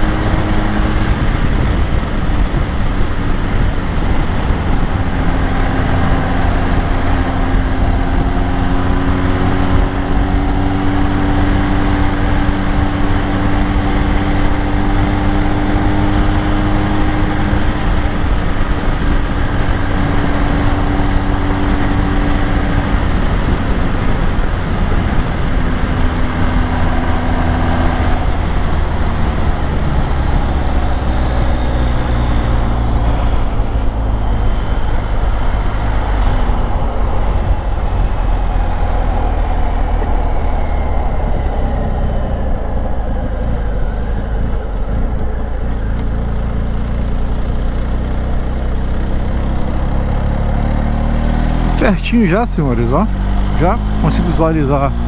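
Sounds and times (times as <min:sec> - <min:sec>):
heavy wind noise: 0:00.0 - 0:55.0
motorcycle engine running: 0:00.0 - 0:55.0
road noise: 0:00.0 - 0:55.0.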